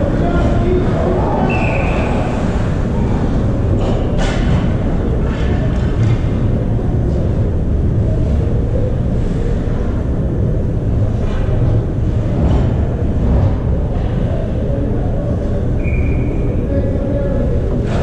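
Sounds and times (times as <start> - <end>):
ice rink low rumble: 0.0 - 18.0.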